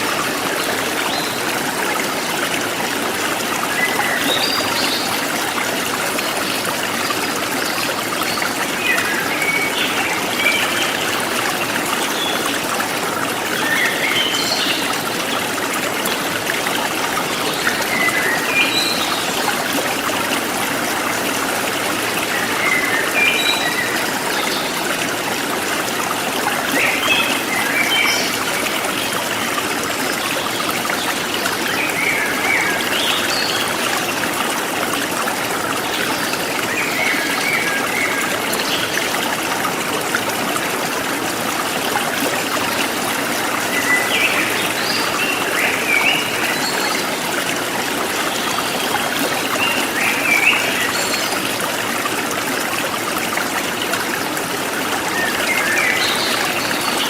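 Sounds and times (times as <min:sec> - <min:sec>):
stream flowing and trickling: 0:00.0 - 0:57.0.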